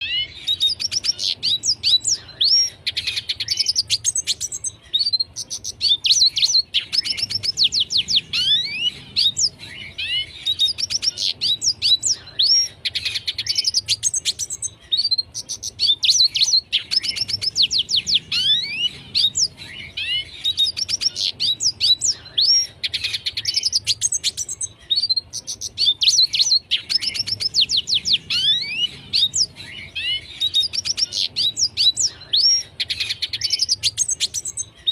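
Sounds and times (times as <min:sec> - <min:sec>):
bird twittering song: 0:00.0 - 0:34.9.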